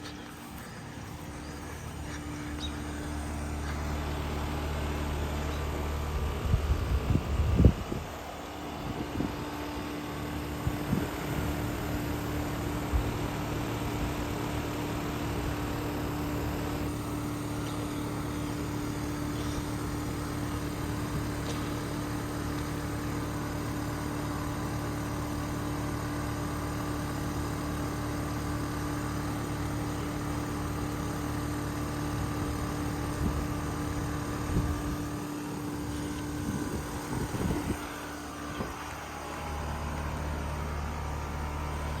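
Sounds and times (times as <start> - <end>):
heat pump mechanical hum: 0.0 - 42.0.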